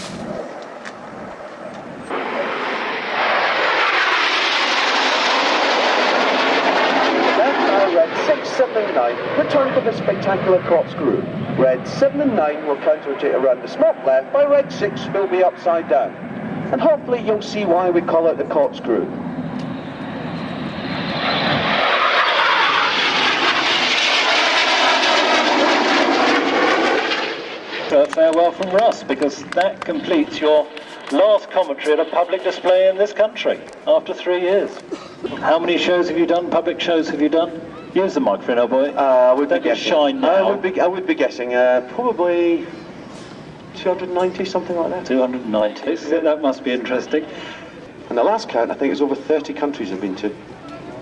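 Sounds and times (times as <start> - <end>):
jets flying past: 0.0 - 51.0.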